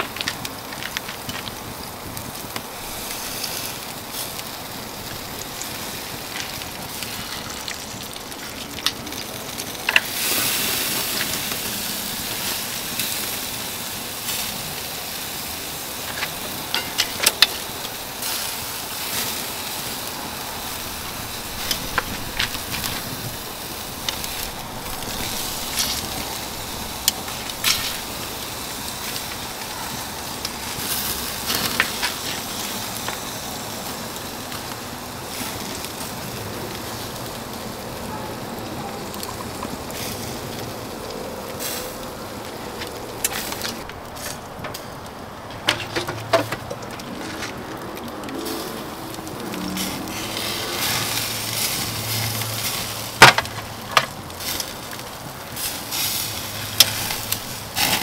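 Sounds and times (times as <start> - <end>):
embers crackling and popping: 0.0 - 58.0
steady sizzling hiss: 0.0 - 58.0.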